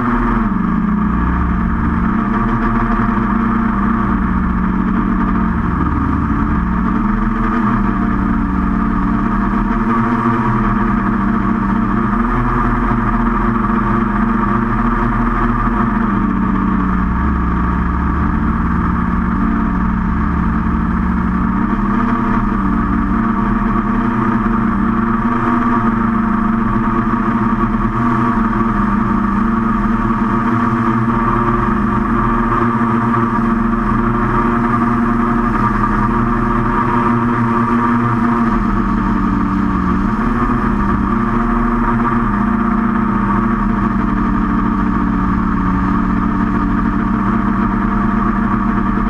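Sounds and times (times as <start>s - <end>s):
drone propellers whirring: 0.0s - 49.0s.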